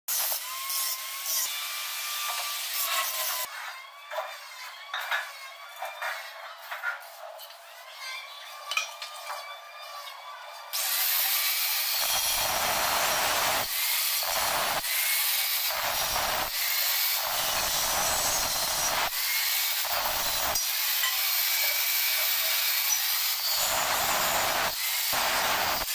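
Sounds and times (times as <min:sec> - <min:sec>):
angle grinder cutting steel: 0:00.1 - 0:25.9.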